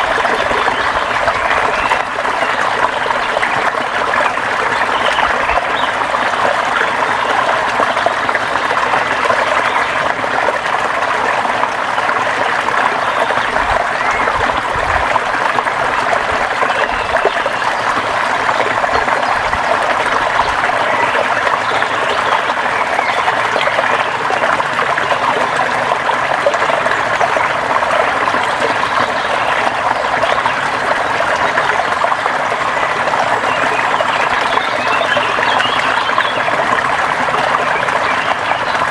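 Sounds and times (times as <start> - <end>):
river water over rocks: 0.0 - 38.9.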